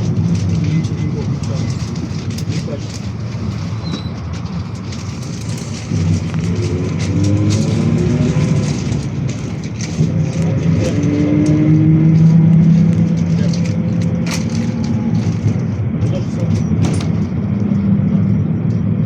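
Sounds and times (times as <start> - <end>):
body rattles and clicks: 0.0 - 17.8
minibus engine running: 0.0 - 19.0
road noise: 0.0 - 19.0.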